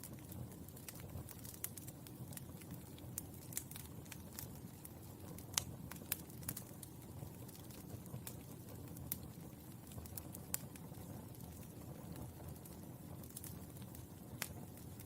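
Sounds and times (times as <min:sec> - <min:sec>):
burning charcoal crackling: 0:00.0 - 0:15.0
low steady background noise: 0:00.0 - 0:15.0.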